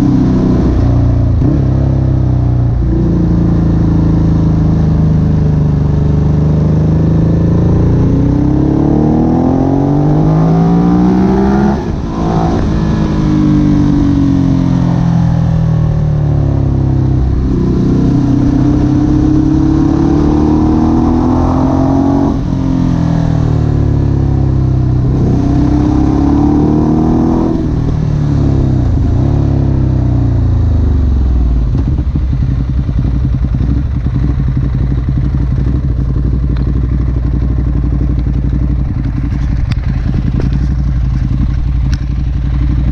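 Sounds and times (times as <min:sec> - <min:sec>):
motorcycle engine revving and idling: 0:00.0 - 0:42.9.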